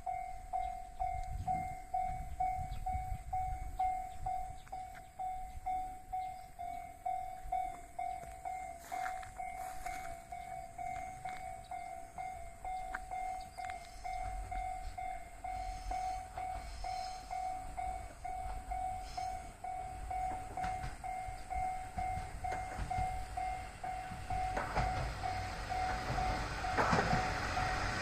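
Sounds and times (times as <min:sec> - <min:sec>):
level-crossing warning bell: 0:00.0 - 0:28.0
train rumbling: 0:00.0 - 0:28.0.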